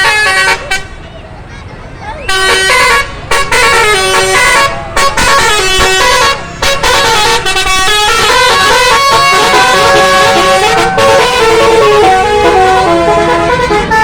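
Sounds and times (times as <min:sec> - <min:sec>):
musical bus horn melody: 0:00.0 - 0:01.1, 0:02.2 - 0:14.0.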